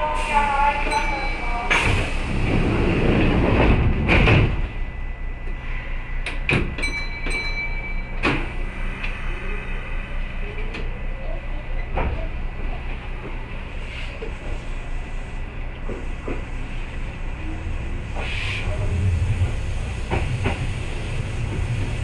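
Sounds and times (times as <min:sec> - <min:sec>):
train doors sliding shut: 0:00.0 - 0:04.8, 0:06.2 - 0:09.2, 0:11.8 - 0:22.0
stationary train humming: 0:00.0 - 0:22.0.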